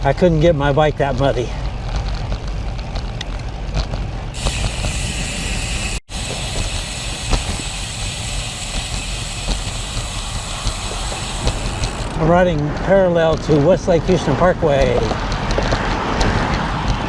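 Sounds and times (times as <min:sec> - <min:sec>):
bicycle tyre and road noise: 0:00.0 - 0:17.0
wind rumbling on microphone: 0:01.0 - 0:17.0.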